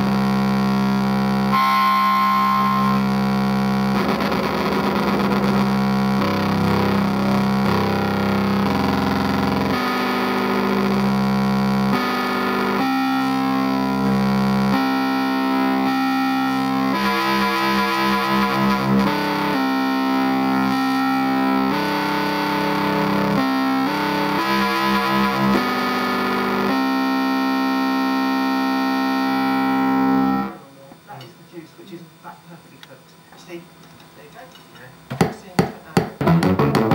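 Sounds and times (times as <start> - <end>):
distorted synth notes and chords: 0.0 - 30.8, 36.2 - 36.9.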